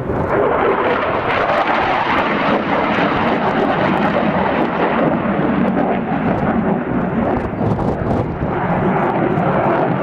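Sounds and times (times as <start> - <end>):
fighter jet engine roar: 0.0 - 10.0.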